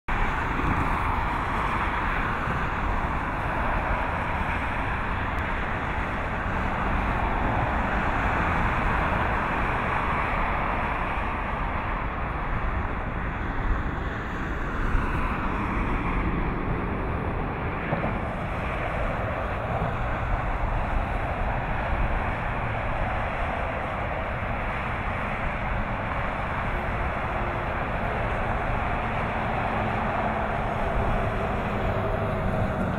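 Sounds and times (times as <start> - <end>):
distant jet engines rushing: 0.1 - 32.9
wind rumble on microphone: 0.1 - 32.9.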